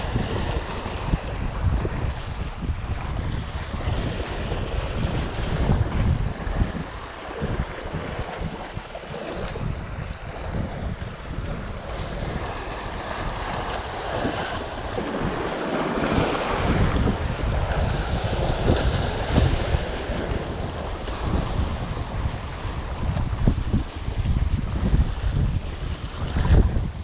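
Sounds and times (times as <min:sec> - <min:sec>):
waves breaking against rocks: 0:00.0 - 0:27.0
wind buffeting microphone: 0:00.0 - 0:27.0.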